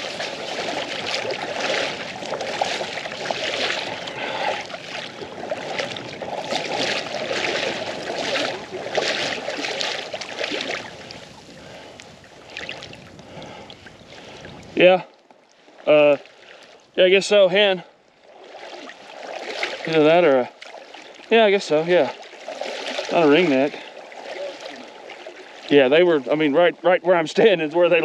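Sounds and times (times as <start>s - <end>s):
wading through shallow water: 0.0s - 28.0s.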